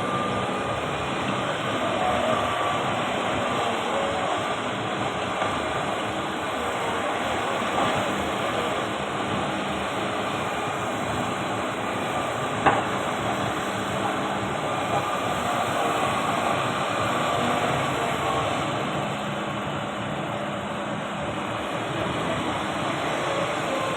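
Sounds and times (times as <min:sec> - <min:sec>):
excavator engine running: 0:00.0 - 0:23.9.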